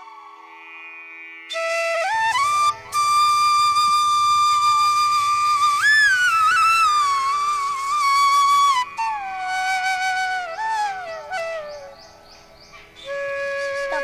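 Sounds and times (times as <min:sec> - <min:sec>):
wind instrument holding long note: 0:01.5 - 0:12.1, 0:13.0 - 0:14.0.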